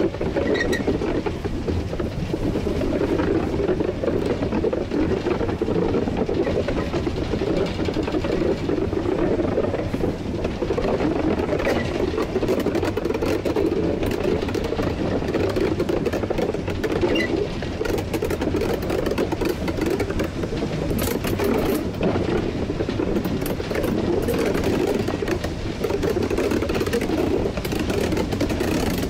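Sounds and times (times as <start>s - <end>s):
steam locomotive rumbling: 0.0s - 29.0s.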